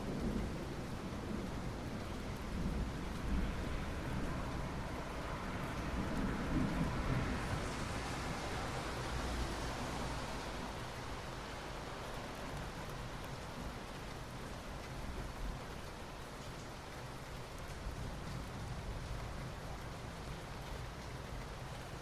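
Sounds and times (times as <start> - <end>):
rain falling on asphalt: 0.0 - 22.0.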